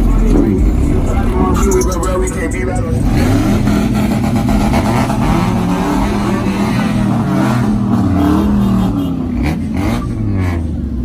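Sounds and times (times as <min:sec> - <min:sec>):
car engines idling and revving: 0:00.0 - 0:11.0.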